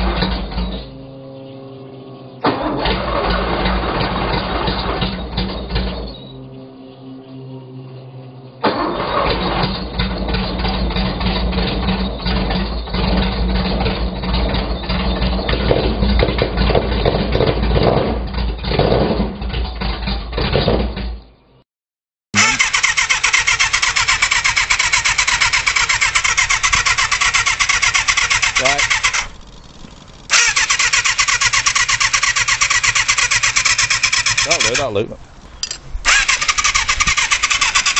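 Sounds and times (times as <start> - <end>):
engine running loudly: 0.0 - 21.0, 22.4 - 37.9
engine running with fast even beat: 0.0 - 21.0, 22.4 - 37.9.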